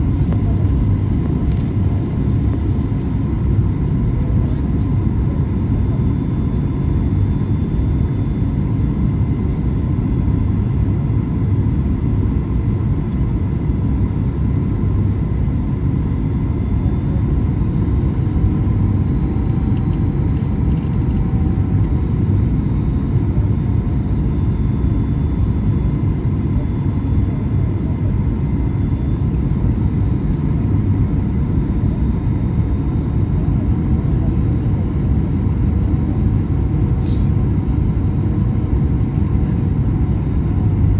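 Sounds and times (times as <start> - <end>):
airplane cabin engine roar: 0.0 - 40.9.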